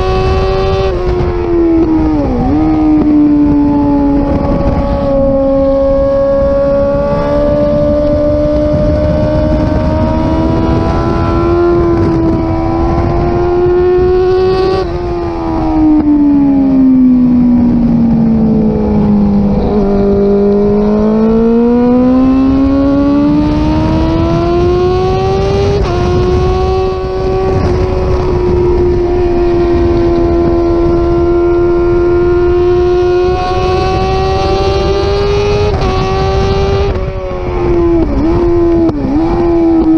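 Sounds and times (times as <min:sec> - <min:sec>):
motorcycle engine running hard: 0:00.0 - 0:39.9
wind noise: 0:00.0 - 0:39.9.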